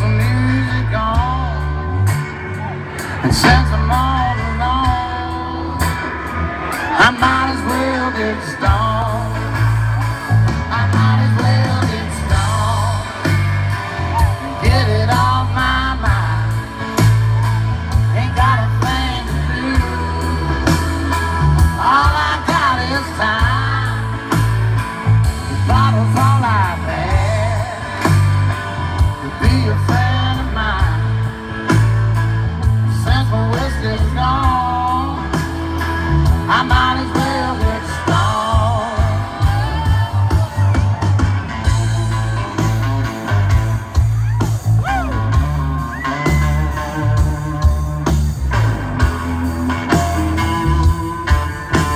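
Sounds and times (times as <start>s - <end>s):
person singing: 0.0s - 28.3s, 29.0s - 31.7s, 32.6s - 51.9s
live country-rock band: 0.0s - 51.9s.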